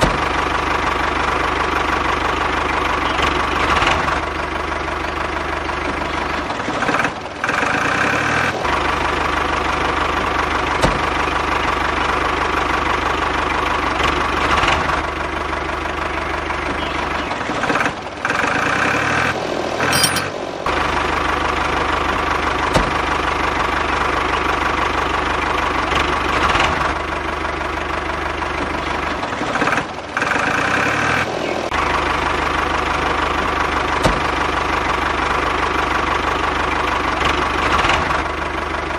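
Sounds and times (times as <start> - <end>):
model diesel engine idling with knock: 0.0 - 19.0, 19.8 - 38.9.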